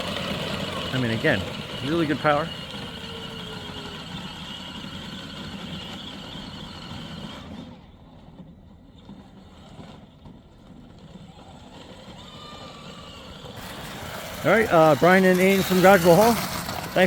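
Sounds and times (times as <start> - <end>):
toy car motors whining: 0.0 - 17.0.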